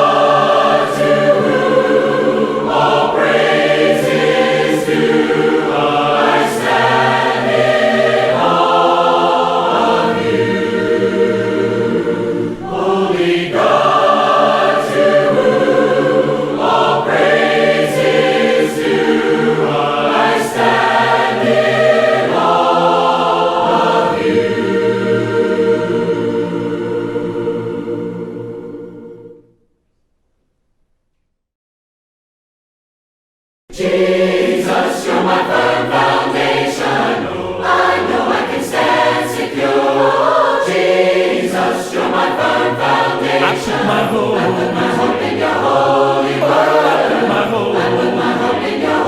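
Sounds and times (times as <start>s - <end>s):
choir singing a hymn: 0.0s - 29.5s, 33.7s - 49.0s.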